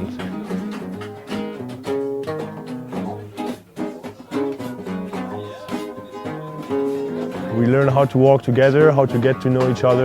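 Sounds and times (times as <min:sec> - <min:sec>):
acoustic guitar: 0:00.0 - 0:10.0.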